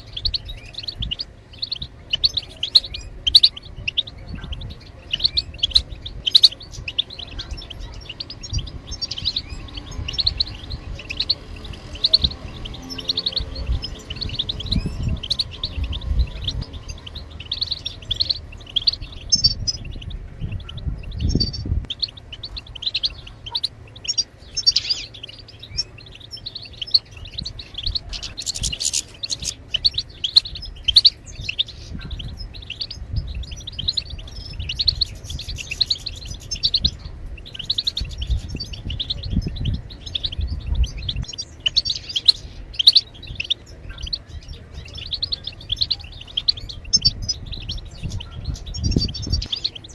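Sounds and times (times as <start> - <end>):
goldfinch twittering song: 0.0 - 49.9
low rumble: 0.0 - 49.9.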